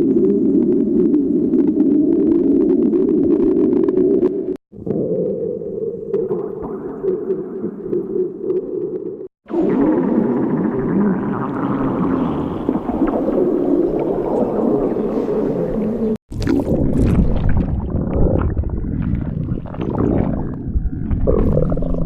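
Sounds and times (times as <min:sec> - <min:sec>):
stomach growling: 0:00.0 - 0:22.0
stomach gurgles: 0:00.0 - 0:22.0.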